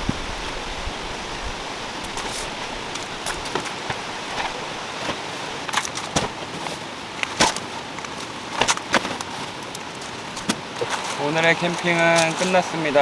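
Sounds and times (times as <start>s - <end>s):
steady rain: 0.0s - 8.6s, 9.3s - 13.0s.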